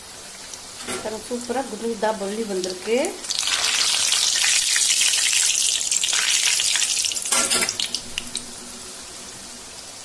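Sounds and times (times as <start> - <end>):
batter deep-frying in hot oil: 0.0 - 10.0
crackles of frying: 0.0 - 10.0.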